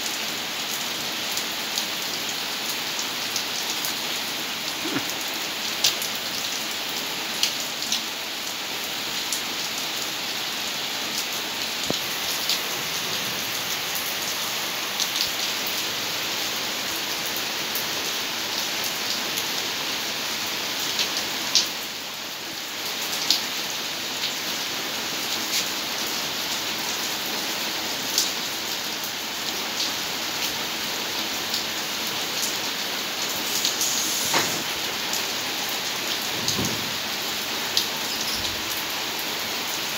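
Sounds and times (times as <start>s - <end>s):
rain on flooded pavement: 0.0s - 39.9s.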